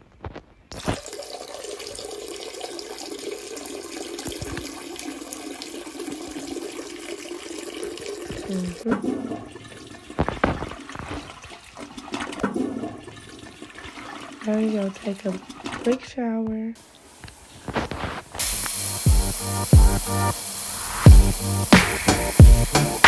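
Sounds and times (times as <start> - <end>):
toilet flushing: 1.0 - 16.0, 18.4 - 23.0.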